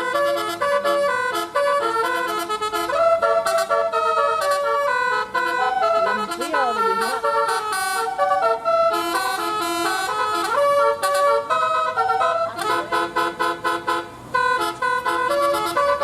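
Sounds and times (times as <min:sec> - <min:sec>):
multi-tone air horn melody: 0:00.0 - 0:16.0.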